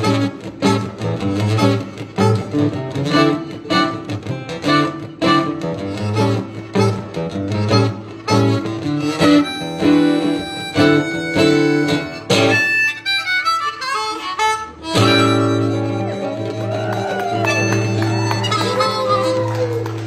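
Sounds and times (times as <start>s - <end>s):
guitar chords strummed: 0.0s - 19.5s
harmonica bending notes: 0.0s - 20.0s.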